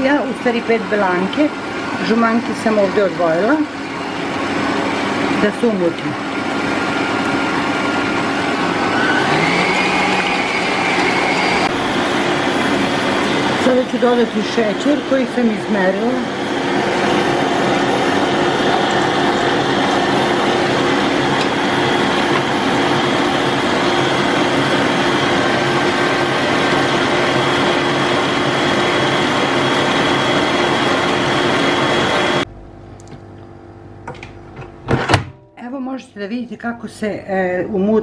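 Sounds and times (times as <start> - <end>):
whisk churning in steel bowl: 0.0 - 32.4
stand mixer motor whirring: 0.0 - 32.5.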